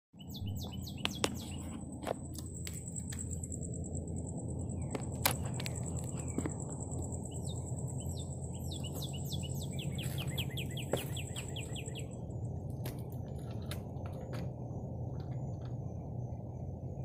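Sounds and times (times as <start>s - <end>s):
birds chirping: 0.2s - 17.0s
low outdoor rumble: 0.2s - 17.0s
steady high-pitched whine: 0.2s - 17.0s.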